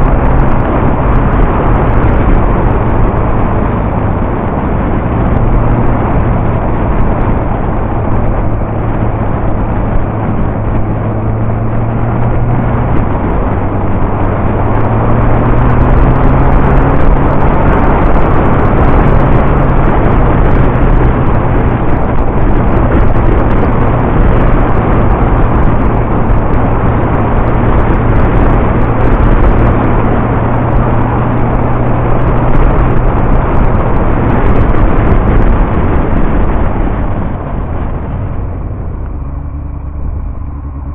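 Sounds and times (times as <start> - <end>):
wind noise on microphone: 0.0 - 40.9.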